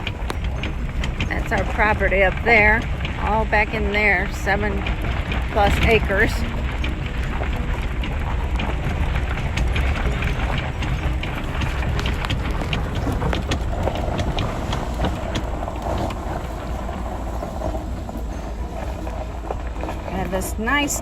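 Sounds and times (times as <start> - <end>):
trailer clicks and rattles: 0.0 - 21.0
truck engine and road rumble: 0.0 - 21.0.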